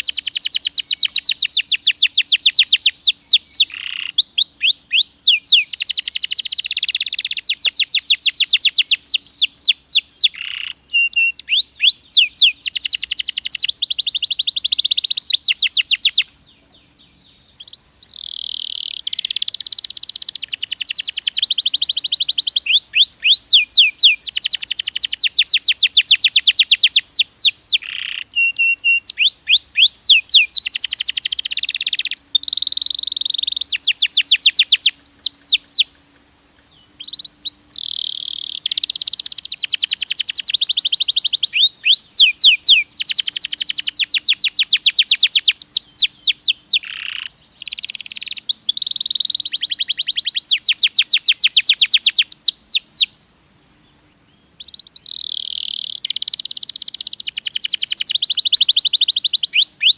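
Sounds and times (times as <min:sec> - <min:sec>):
canary singing trills: 0:00.0 - 0:36.0, 0:36.6 - 0:53.2, 0:54.3 - 0:59.9.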